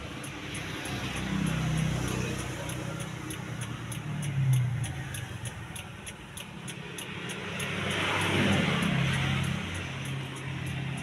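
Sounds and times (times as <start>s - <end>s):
car engine hum from cabin: 0.0s - 11.0s
light regular ticking: 0.0s - 11.0s.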